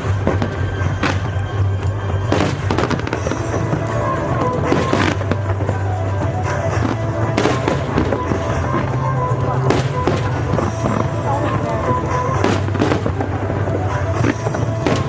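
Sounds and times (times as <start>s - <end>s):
fireworks bursting and crackling: 0.0s - 15.0s
music: 0.0s - 15.0s.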